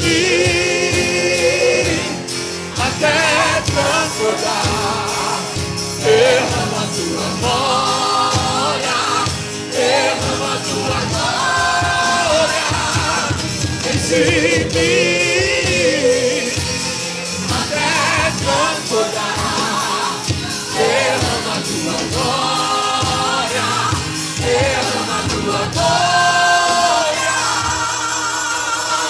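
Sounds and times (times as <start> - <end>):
steady drum beat: 0.0 - 28.0
band playing: 0.0 - 29.0
group singing together: 0.0 - 29.0.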